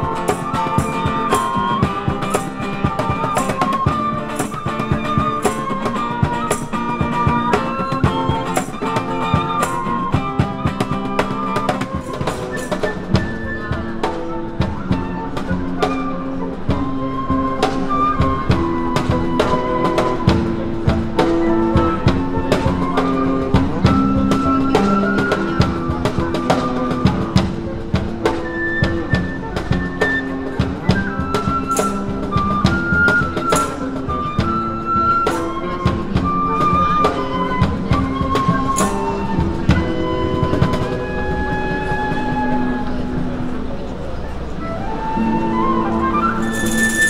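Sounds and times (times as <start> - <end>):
box drum beat: 0.0 - 42.6
flutes playing melody: 0.0 - 47.0.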